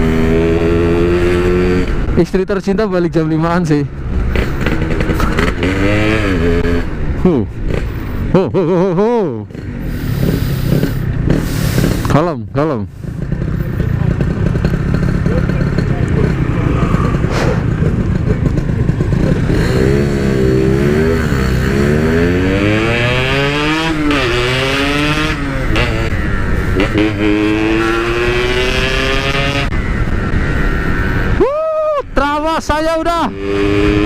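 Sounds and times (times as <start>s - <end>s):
motorcycle engine accelerating: 0.0s - 2.2s, 3.9s - 31.4s, 32.8s - 34.0s.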